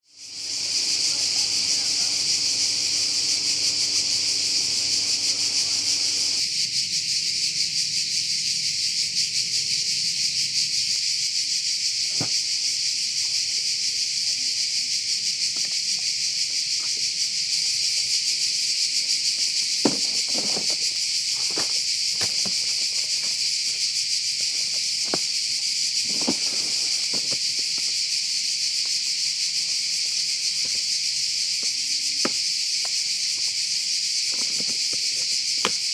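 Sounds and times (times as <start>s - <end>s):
insects chorus: 0.0s - 35.9s.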